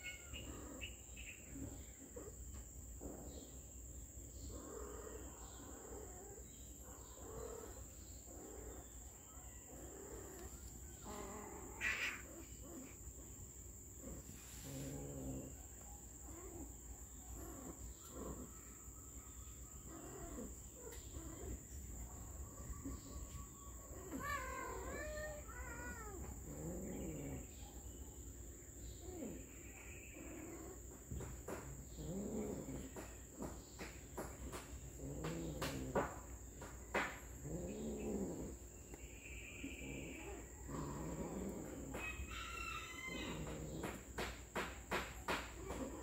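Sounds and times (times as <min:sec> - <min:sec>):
cats yowling and growling: 0:00.0 - 0:46.0.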